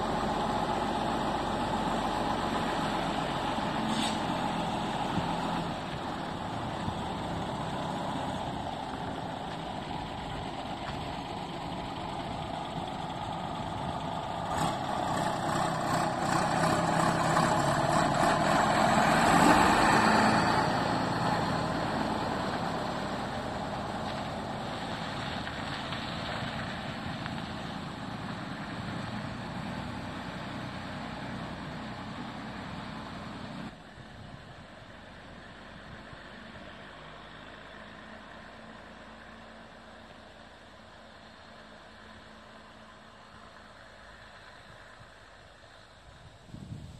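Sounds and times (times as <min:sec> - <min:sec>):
tractor diesel engine passing: 0:00.0 - 0:46.9.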